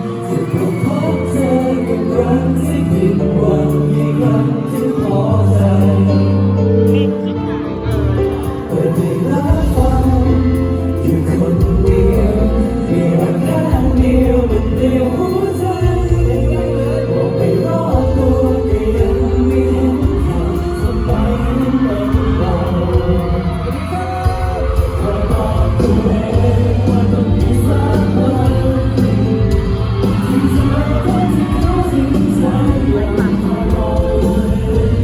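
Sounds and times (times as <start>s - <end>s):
live pop song with singer and band: 0.0s - 35.0s
steady bass line: 0.0s - 35.0s.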